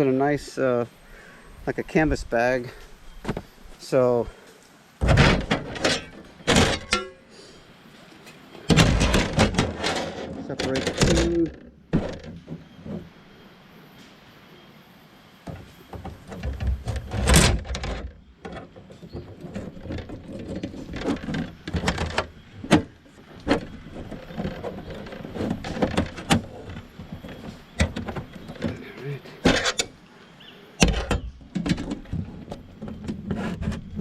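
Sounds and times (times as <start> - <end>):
rustling and scraping: 0.0 - 14.3, 15.4 - 34.0.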